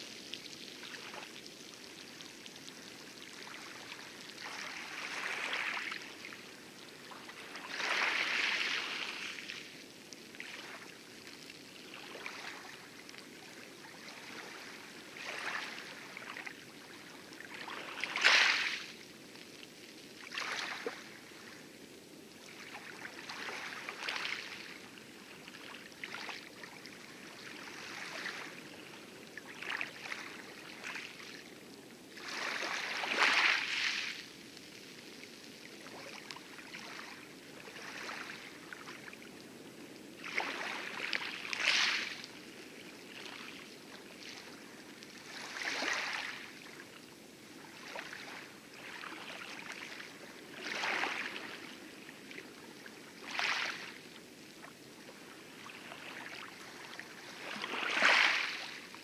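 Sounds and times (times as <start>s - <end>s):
water lapping at hull: 0.3s - 9.8s, 10.4s - 18.9s, 22.4s - 39.2s, 40.2s - 59.0s.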